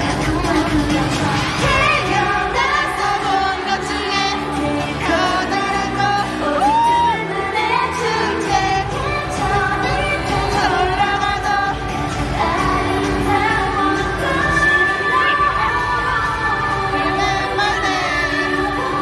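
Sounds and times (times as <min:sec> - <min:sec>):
female group singing: 0:00.0 - 0:19.0
loud dance-pop backing track: 0:00.0 - 0:19.0.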